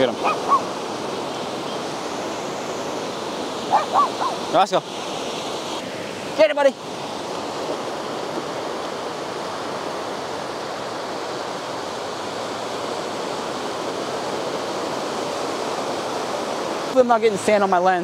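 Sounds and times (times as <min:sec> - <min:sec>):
ocean surf washing up: 0:00.0 - 0:18.0.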